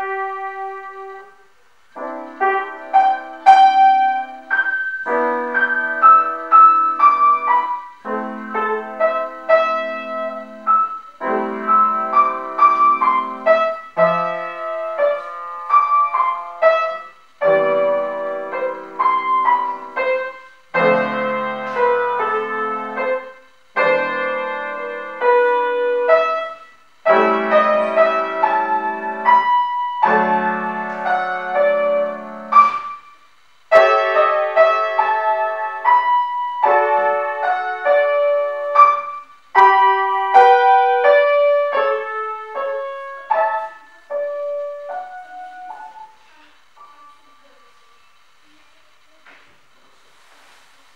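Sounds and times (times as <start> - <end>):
slow solo piano piece: 0.0 - 50.9.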